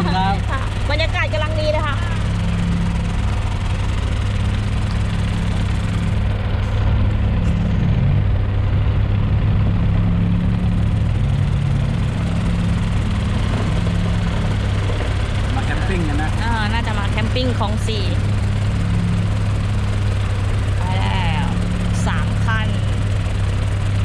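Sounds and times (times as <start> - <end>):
off-road vehicle engine humming: 0.0 - 24.0.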